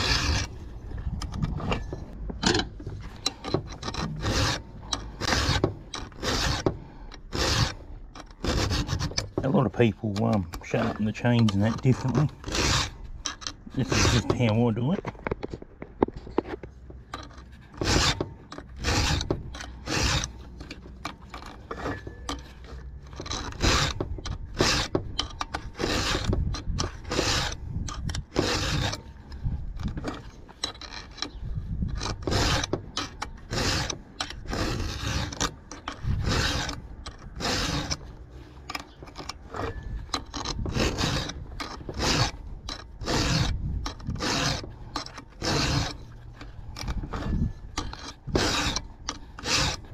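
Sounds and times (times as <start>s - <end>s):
file rasping on chainsaw chain: 0.0s - 2.1s, 3.0s - 15.0s, 17.1s - 49.9s.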